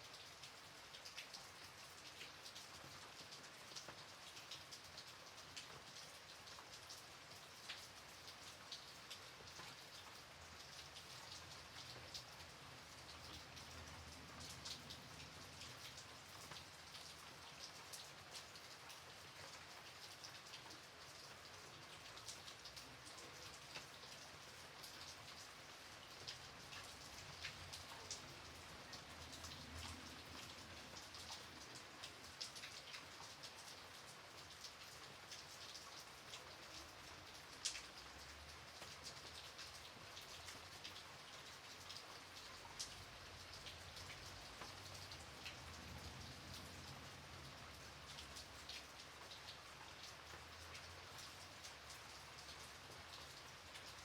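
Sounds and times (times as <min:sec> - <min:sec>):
gentle rain falling: 0:00.0 - 0:54.0
raindrops ticking on a surface: 0:00.0 - 0:54.0.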